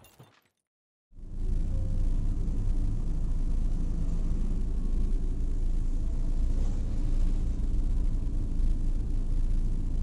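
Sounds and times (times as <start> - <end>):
car engine idling: 1.2 - 10.0
passing traffic: 1.2 - 10.0.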